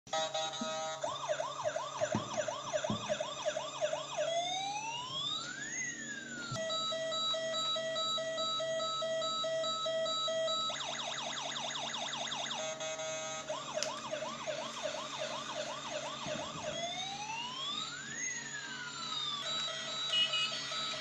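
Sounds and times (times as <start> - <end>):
electronic siren: 0.1 - 21.0.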